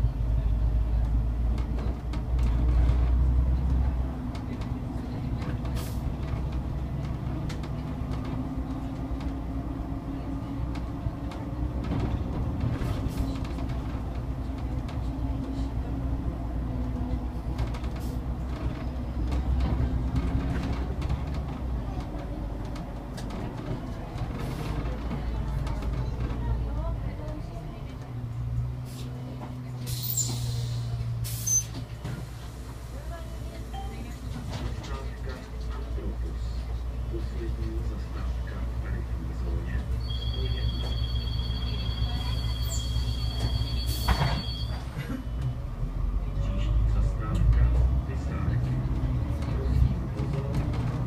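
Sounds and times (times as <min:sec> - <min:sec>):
bus engine rumble: 0:00.0 - 0:51.0.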